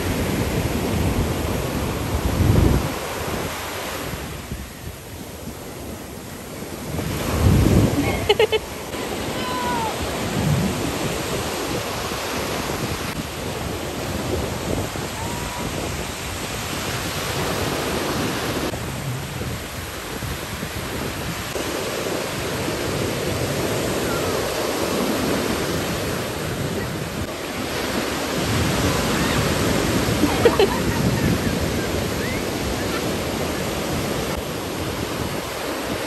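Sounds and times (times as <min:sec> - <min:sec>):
ocean surf washing onto beach: 0:00.0 - 0:36.0
wind buffeting microphone: 0:00.0 - 0:36.0.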